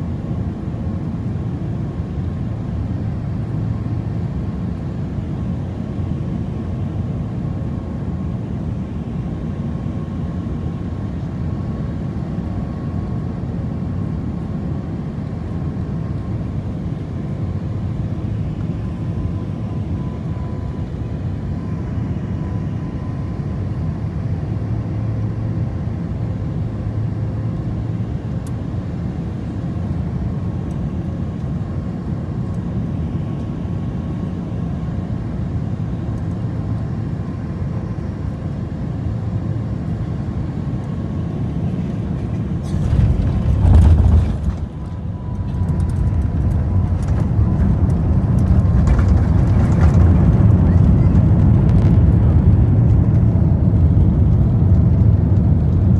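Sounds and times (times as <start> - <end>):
jet engines and rushing air: 0.0 - 55.9.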